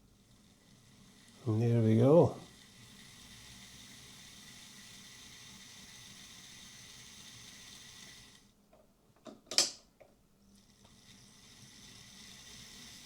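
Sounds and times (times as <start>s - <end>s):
model train motor whine: 0.0s - 8.5s, 10.5s - 13.0s.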